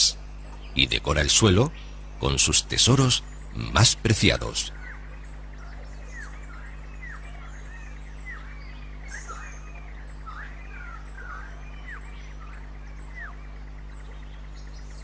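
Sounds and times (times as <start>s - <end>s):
birds chirping and whistling: 0.0s - 15.0s
low hum: 0.0s - 15.0s.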